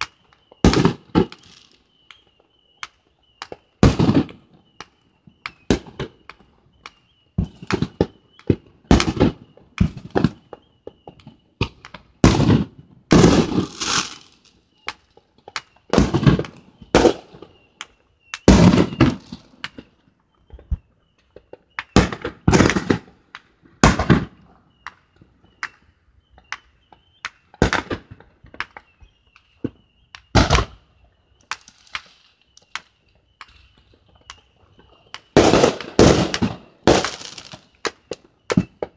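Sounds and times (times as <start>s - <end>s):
fireworks bangs: 0.0s - 19.9s, 20.5s - 38.9s
fireworks crackling: 0.0s - 19.9s, 21.4s - 38.9s.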